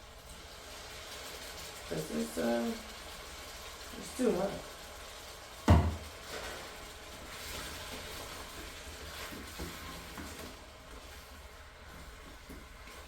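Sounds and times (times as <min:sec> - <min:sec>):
butter and sugar sizzling in a pan: 0:00.0 - 0:13.0.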